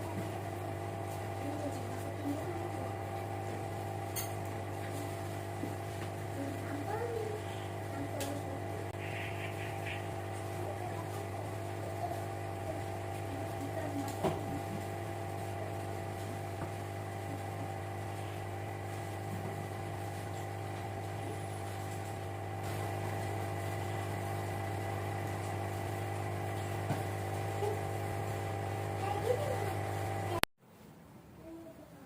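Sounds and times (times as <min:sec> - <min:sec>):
aquarium pump humming: 0:00.0 - 0:30.5.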